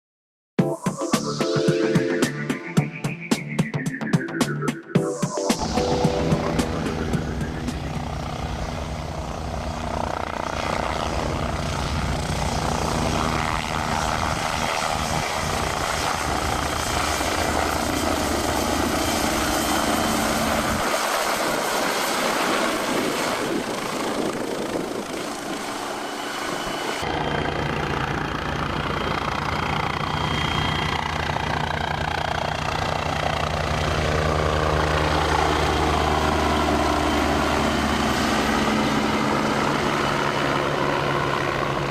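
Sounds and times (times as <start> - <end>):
helicopter rotor beat: 0.6 - 41.9
helicopter turbine noise: 0.6 - 41.9.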